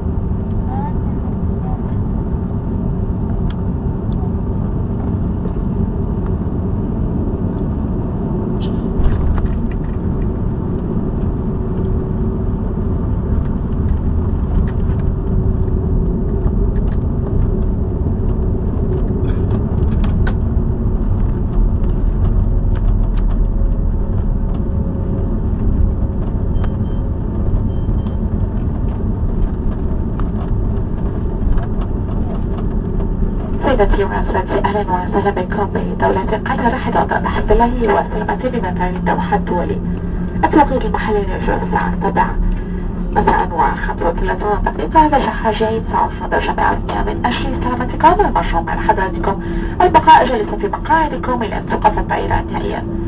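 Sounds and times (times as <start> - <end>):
aircraft engines rumbling: 0.0 - 53.0.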